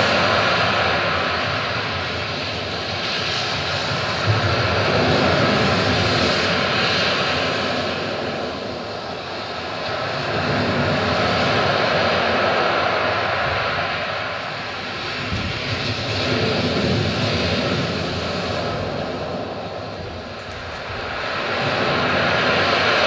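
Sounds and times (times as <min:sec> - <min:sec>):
steady rushing roar: 0:00.0 - 0:23.0.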